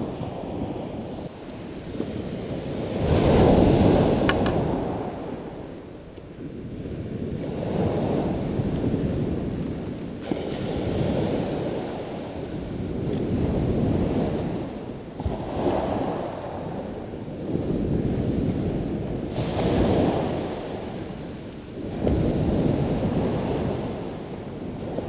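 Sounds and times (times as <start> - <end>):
waves washing on shingle: 0.0 - 25.0
wind on microphone: 0.0 - 25.0.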